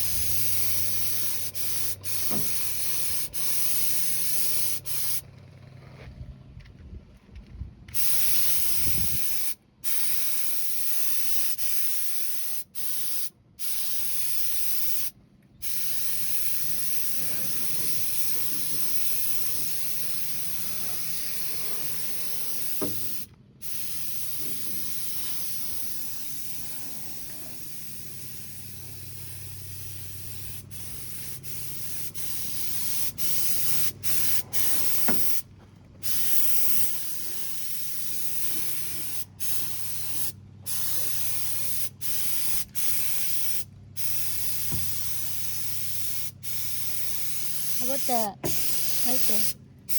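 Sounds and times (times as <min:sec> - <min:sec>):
paint spray gun hissing: 0:00.0 - 0:05.2, 0:08.0 - 0:49.9.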